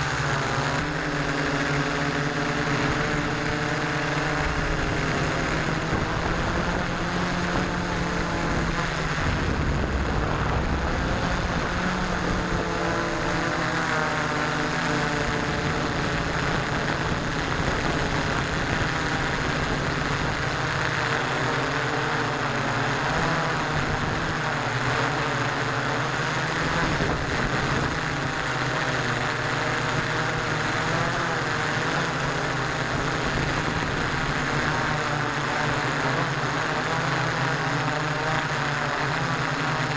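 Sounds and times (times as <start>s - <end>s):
drone motors buzzing: 0.0s - 39.9s.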